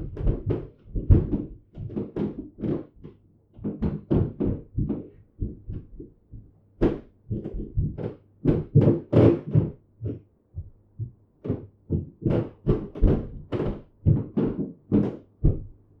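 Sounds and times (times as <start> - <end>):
heavy running footsteps on floor: 0.0 - 15.8.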